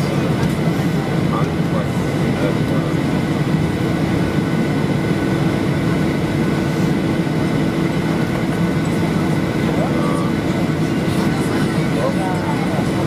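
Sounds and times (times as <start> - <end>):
aircraft cabin engine hum: 0.0 - 13.0.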